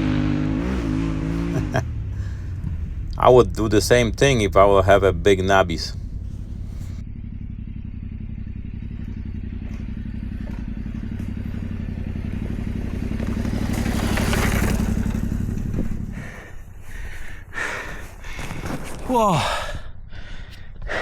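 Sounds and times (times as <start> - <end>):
motorcycle engine idling: 0.0 - 18.5.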